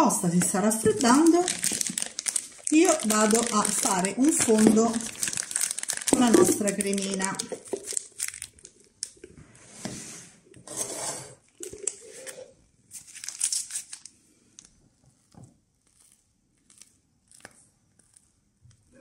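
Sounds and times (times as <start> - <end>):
piping bag rustling and crinkling: 0.3 - 9.3, 11.5 - 19.0.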